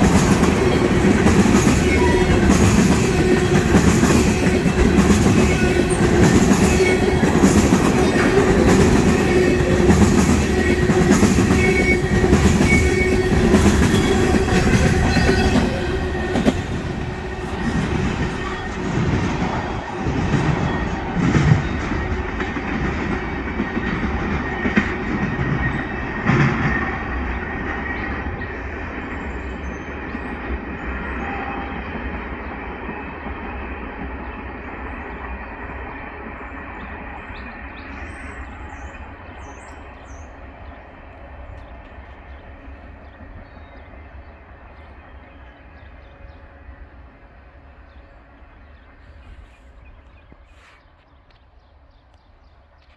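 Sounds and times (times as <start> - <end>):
sharp clacks of train wheels: 0.0 - 46.4
train wheels rumbling and clattering: 0.0 - 52.9.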